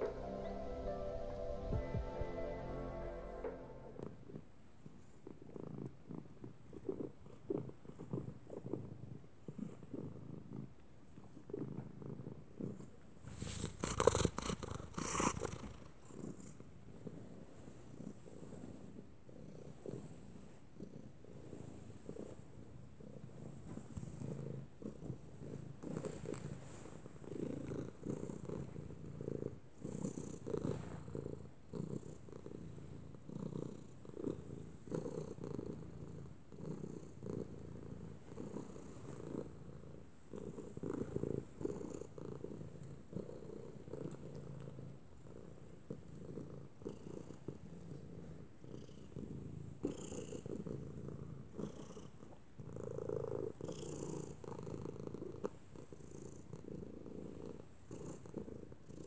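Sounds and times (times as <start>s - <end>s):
cat purring: 4.0s - 59.0s.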